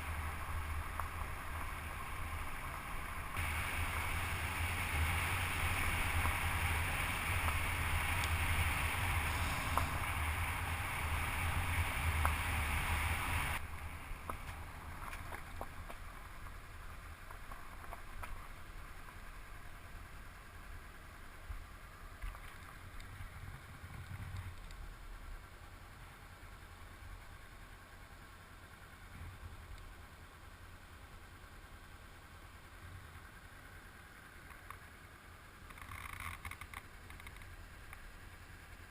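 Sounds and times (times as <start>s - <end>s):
motorcycle engine rumble: 0.0s - 38.9s.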